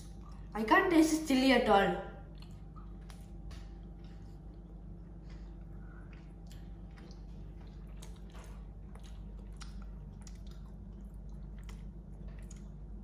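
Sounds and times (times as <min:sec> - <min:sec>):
wet chewing with mouth clicks: 0:00.0 - 0:00.6, 0:02.2 - 0:13.0
steady low hum: 0:00.0 - 0:13.0.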